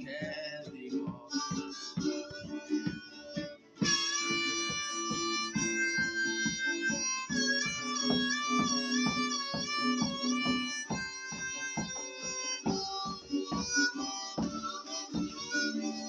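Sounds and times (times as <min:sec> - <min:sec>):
harmonica playing: 0:00.0 - 0:16.0
strummed acoustic guitar: 0:00.0 - 0:16.0.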